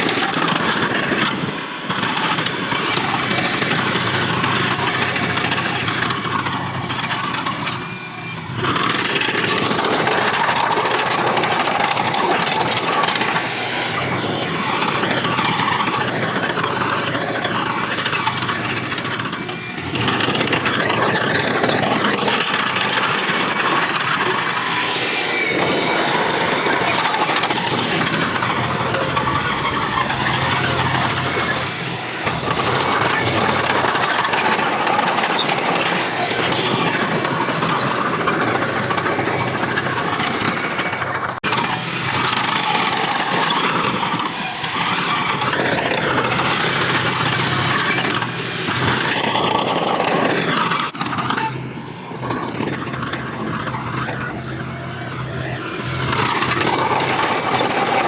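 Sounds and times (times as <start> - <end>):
diesel machinery engine running: 0.0 - 58.0
wavering metallic squeals: 0.0 - 58.0.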